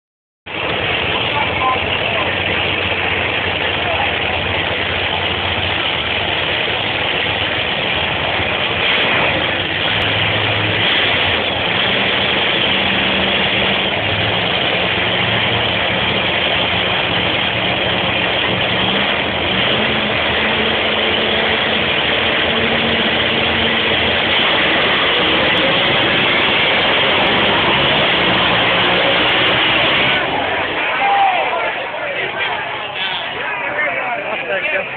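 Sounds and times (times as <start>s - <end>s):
race car engines running: 0.5s - 34.9s.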